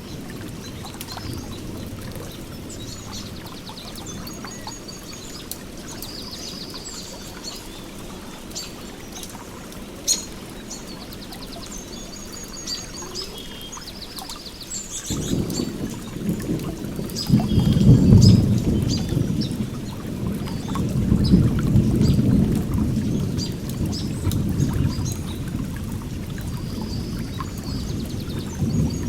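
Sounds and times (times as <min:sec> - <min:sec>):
flowing water: 0:00.0 - 0:29.0
songbirds chirping and trilling: 0:00.0 - 0:29.0.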